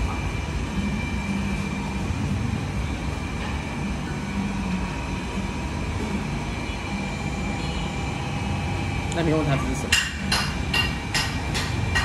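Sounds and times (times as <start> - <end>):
faint high whine: 0.0 - 9.8
low rumble of room hum: 0.0 - 12.0.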